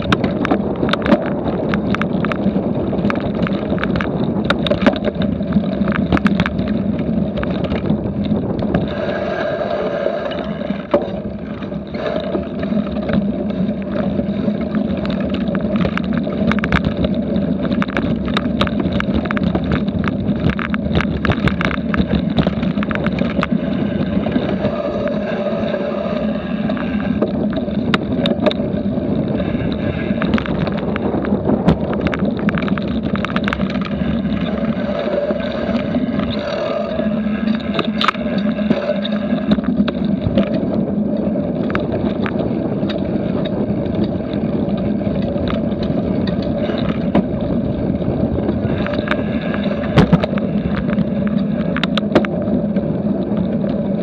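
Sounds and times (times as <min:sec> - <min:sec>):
bike rattling and knocking: 0:00.0 - 0:09.1, 0:10.3 - 0:54.0
wind rushing on microphone: 0:00.0 - 0:54.0.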